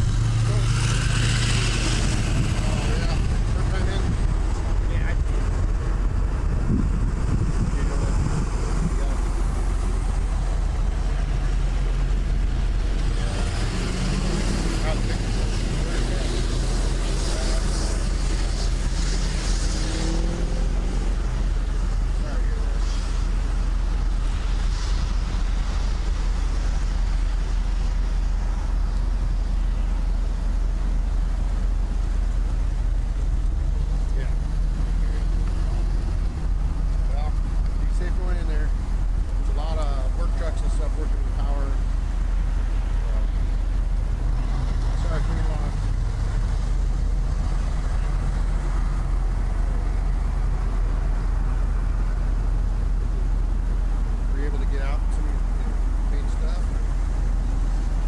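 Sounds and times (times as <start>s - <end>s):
car driving on a highway: 0.0s - 58.0s
rushing noise: 0.0s - 58.0s.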